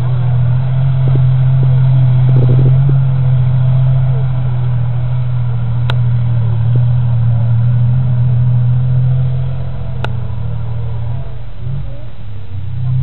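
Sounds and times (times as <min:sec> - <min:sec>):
tank diesel engine droning: 0:00.0 - 0:13.0.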